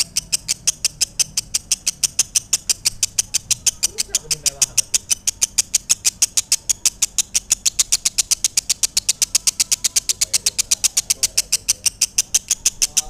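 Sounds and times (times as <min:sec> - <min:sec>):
lovebird shrill rapid chirps: 0:00.0 - 0:13.0.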